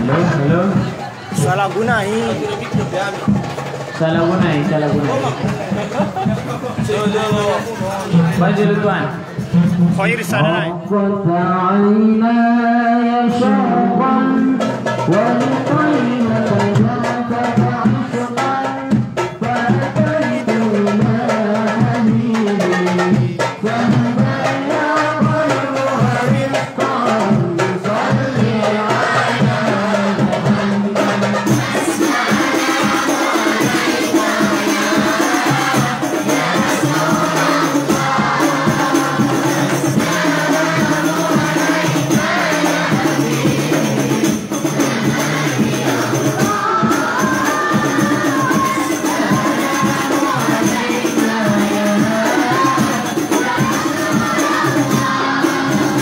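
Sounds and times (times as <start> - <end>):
frame drums beating: 0.0 - 10.9, 14.0 - 56.0
voices singing devotional song: 0.0 - 56.0.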